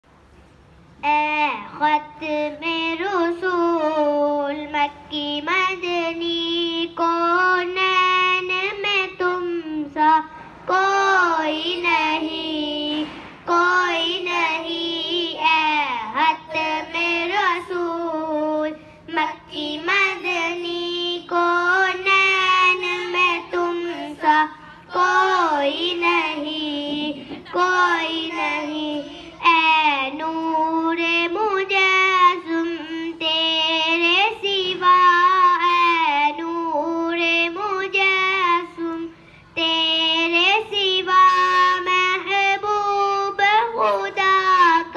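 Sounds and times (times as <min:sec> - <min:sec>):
boy singing devotional song: 0:01.0 - 0:44.9.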